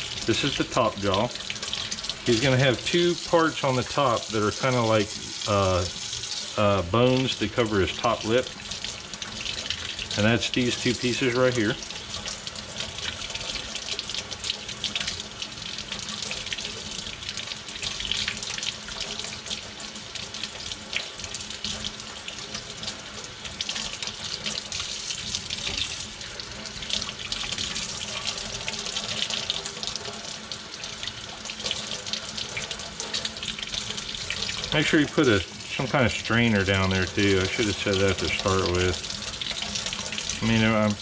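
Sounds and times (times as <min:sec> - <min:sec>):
faucet running into a steel sink: 0:00.0 - 0:41.0.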